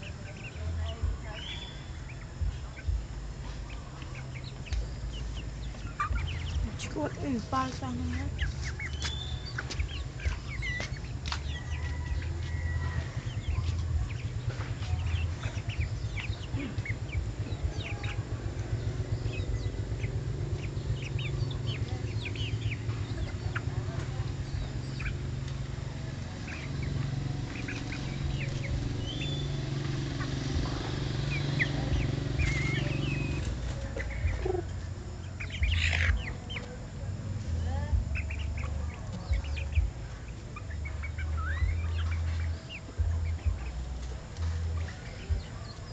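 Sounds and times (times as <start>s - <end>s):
chickens chirping and peeping: 0.0s - 45.9s
steady low rumble: 0.0s - 45.9s.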